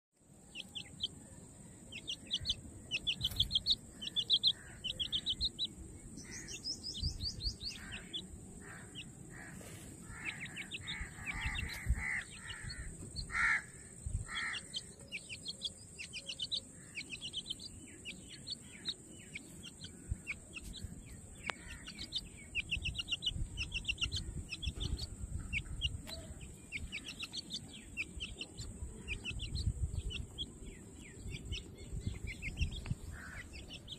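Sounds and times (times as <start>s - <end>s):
birds chirping: 0.2s - 33.9s
lower bird calls: 0.3s - 33.9s.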